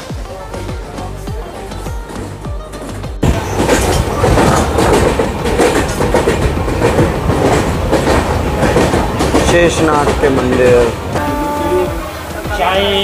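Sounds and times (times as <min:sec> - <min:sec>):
train wheels rumbling and rattling: 0:00.4 - 0:13.0.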